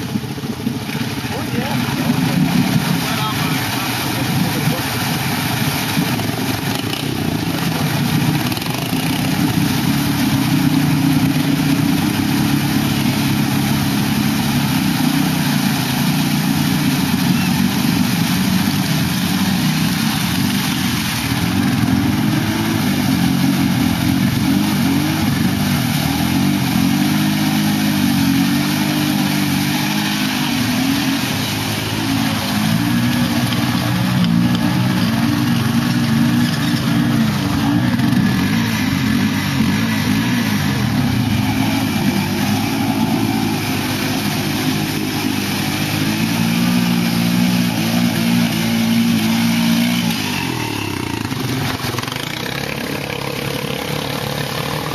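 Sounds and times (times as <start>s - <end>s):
atv engines revving: 0.0s - 54.9s.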